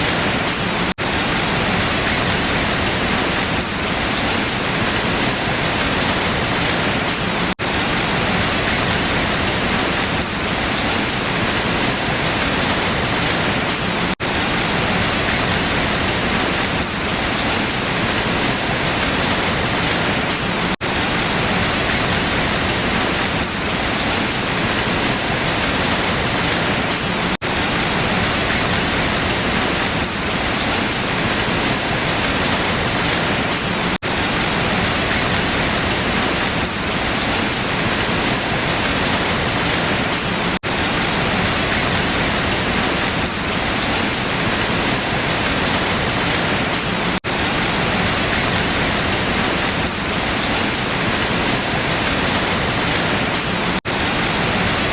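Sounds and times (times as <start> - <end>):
rain falling on leaves: 0.0 - 54.9.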